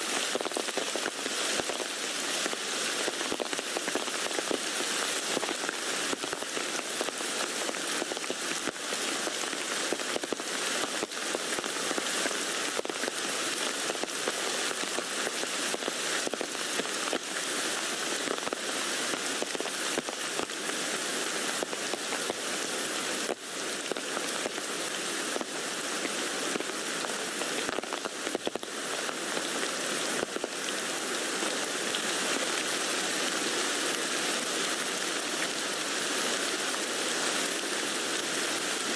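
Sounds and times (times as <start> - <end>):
rain pattering on a tent: 0.0 - 38.9.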